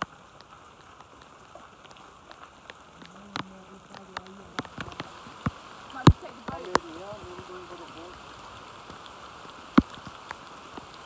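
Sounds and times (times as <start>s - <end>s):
raindrops hitting leaves: 0.0s - 11.0s
steady rain hiss: 0.0s - 11.0s.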